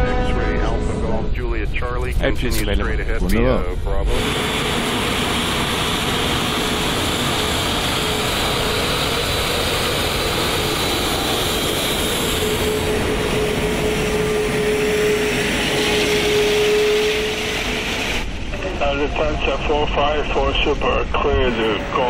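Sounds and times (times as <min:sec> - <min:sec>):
jet engines taxiing: 0:00.6 - 0:22.0.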